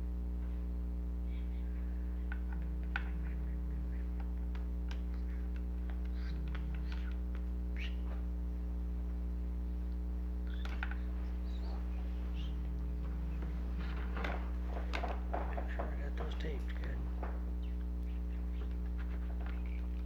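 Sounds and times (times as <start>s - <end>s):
low electrical hum: 0.0s - 20.0s
faint clicks: 2.1s - 8.3s, 9.0s - 20.0s.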